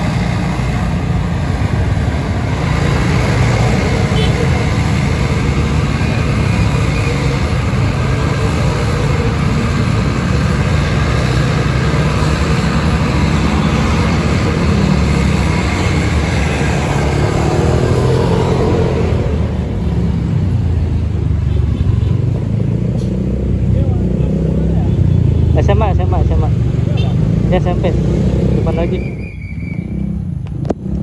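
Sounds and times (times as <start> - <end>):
engine rumble: 0.0 - 31.0.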